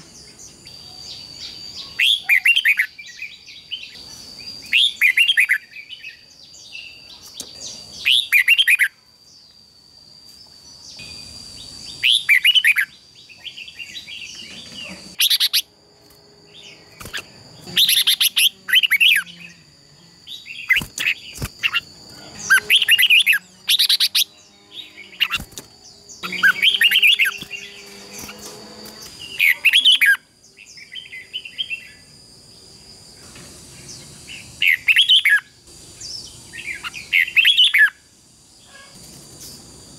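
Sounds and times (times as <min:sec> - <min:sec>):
thin high whine: 0:07.4 - 0:39.9.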